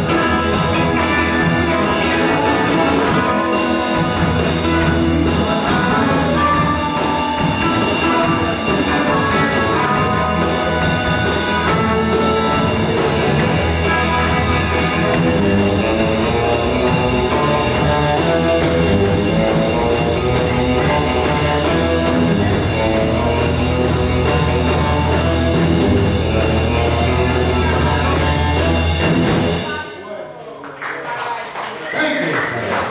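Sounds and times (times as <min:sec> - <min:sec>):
live electric blues band: 0:00.0 - 0:30.0.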